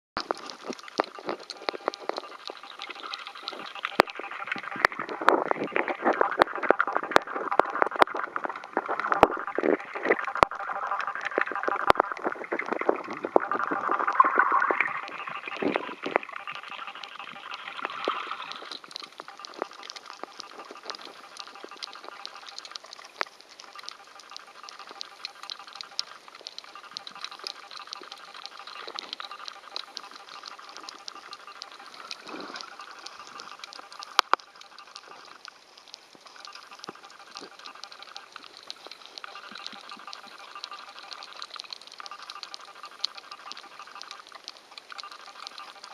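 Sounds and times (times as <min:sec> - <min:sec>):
underwater crackle of clicks: 0:00.2 - 0:45.9.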